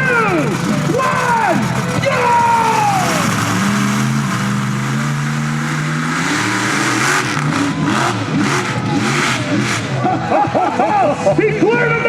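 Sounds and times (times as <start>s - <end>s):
monster truck engine full throttle: 0.0s - 12.0s.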